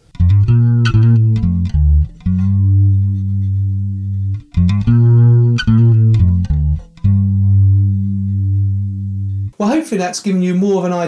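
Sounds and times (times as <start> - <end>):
fretless bass guitar notes: 0.0 - 9.6.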